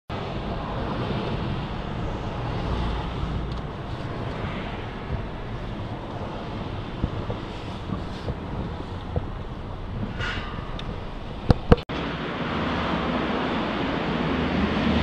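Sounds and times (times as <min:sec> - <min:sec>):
car road and engine noise: 0:00.1 - 0:15.0.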